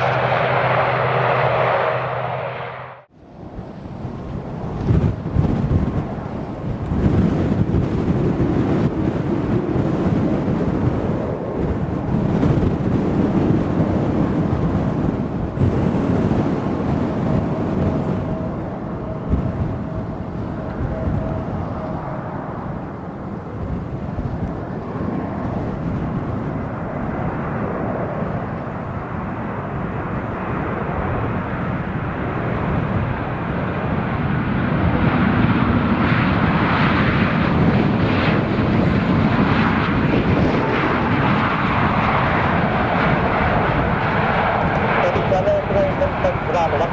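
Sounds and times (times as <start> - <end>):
jet engines rumbling: 0.0 - 46.9
wind buffeting microphone: 0.0 - 46.9.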